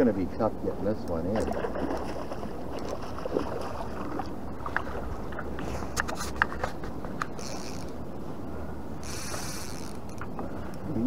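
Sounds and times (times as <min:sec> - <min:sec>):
water lapping against boat hull: 0:01.2 - 0:10.8.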